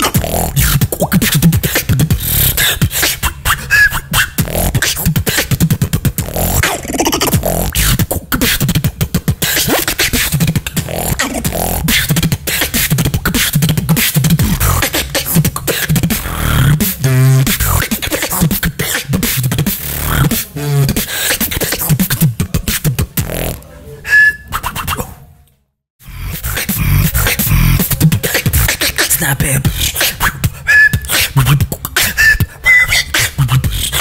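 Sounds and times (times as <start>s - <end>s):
vocal beatboxing: 0.0s - 25.3s, 26.0s - 34.0s.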